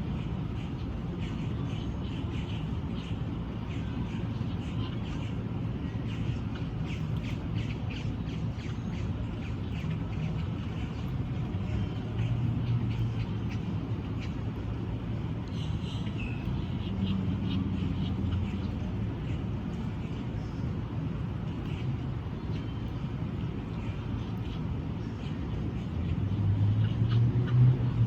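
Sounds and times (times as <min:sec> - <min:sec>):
traffic rumble: 0:00.0 - 0:28.0
small birds chirping: 0:00.5 - 0:26.0.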